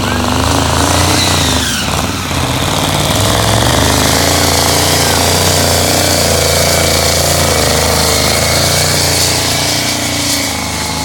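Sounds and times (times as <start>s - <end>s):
diesel truck engine running hard: 0.0s - 11.0s.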